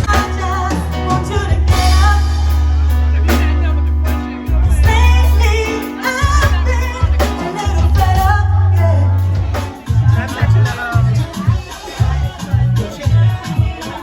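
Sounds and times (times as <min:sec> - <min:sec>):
singing over heavy bass and drums: 0:00.0 - 0:14.0.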